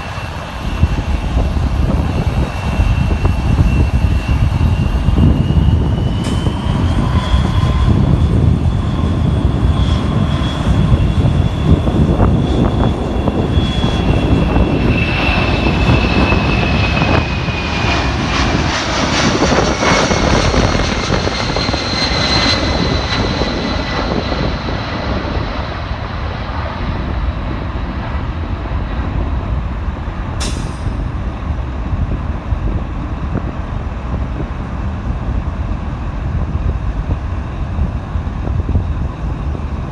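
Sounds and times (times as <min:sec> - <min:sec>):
high jet fan whine: 0:00.0 - 0:39.9
jet engines rumbling: 0:00.0 - 0:39.9.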